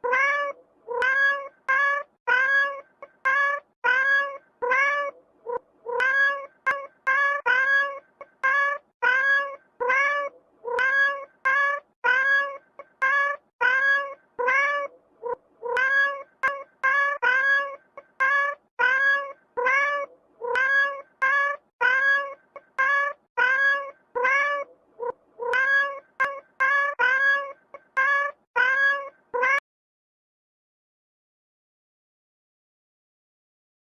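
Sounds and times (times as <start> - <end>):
kitten meowing: 0.0 - 29.6.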